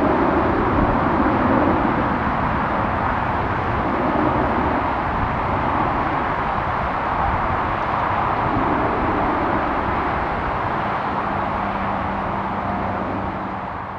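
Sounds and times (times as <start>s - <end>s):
jet engine roar: 0.0s - 13.9s.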